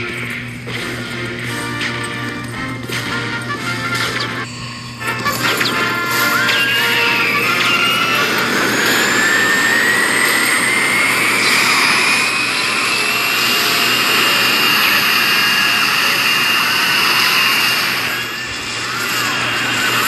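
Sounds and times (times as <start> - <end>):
jet engine roar with rising whine: 0.0 - 20.0.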